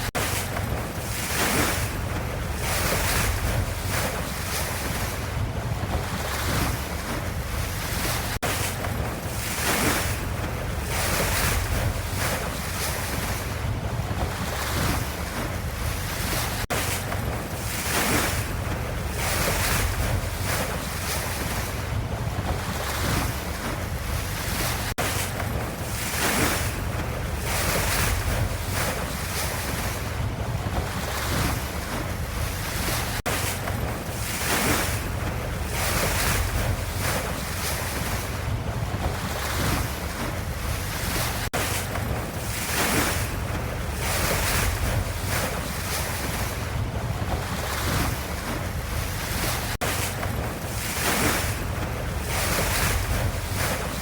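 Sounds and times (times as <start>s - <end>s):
ocean waves and surf: 0.0s - 54.0s.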